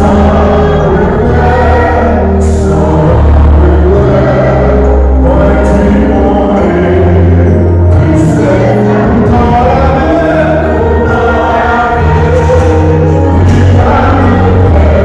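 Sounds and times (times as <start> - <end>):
amplified accompaniment with heavy bass: 0.0 - 15.0
congregation singing a hymn: 0.0 - 15.0.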